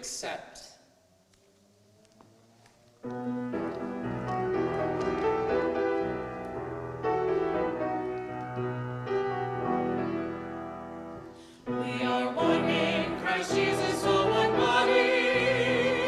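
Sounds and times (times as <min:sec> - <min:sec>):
piano playing slow hymn chords: 0:03.0 - 0:16.0.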